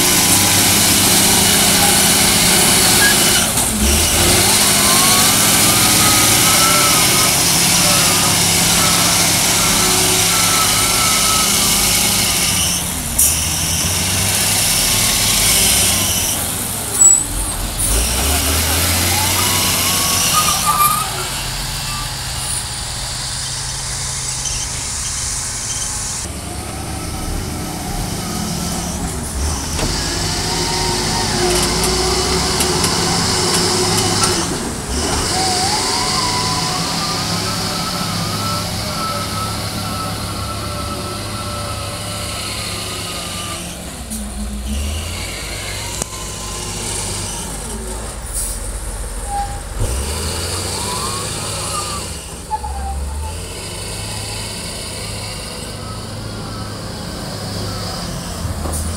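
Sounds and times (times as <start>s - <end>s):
wheel loader diesel engine revving: 0.0s - 58.9s.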